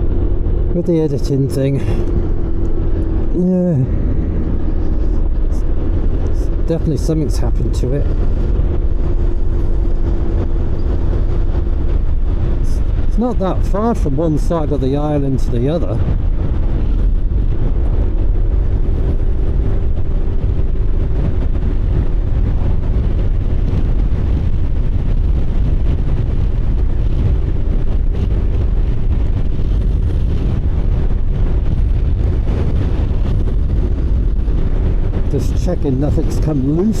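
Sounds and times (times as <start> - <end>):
motorcycle engine and road drone: 0.0 - 37.0
wind buffeting microphone: 0.0 - 37.0.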